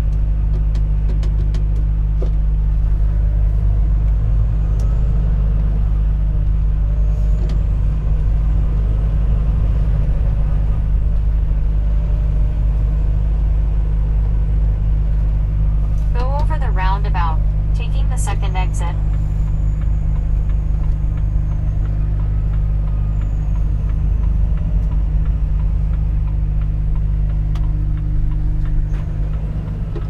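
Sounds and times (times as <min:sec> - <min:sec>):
road noise: 0:00.0 - 0:30.0
truck diesel engine drone: 0:00.0 - 0:30.0.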